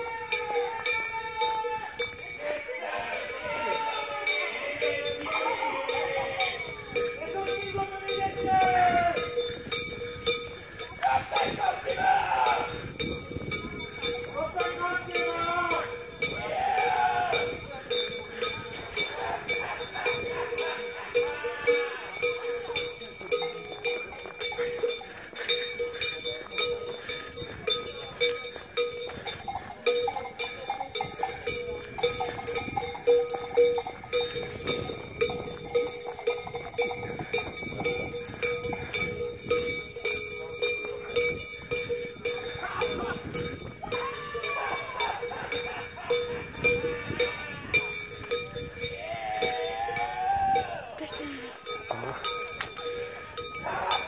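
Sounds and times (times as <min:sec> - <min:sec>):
cowbells clanging: 0:00.0 - 0:54.0.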